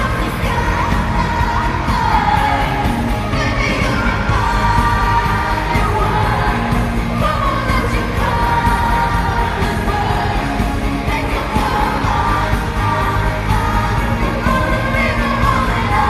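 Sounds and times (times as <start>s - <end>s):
live pop band playing: 0.0s - 16.0s
woman singing: 0.0s - 16.0s.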